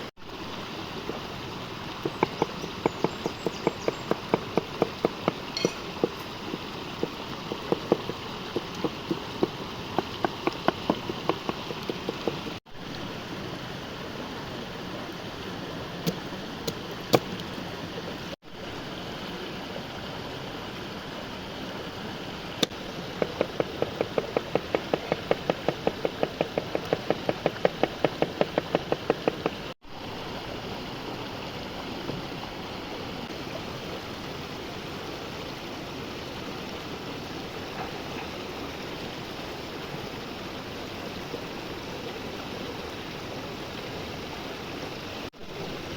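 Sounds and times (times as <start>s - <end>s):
stream running: 0.0s - 45.9s.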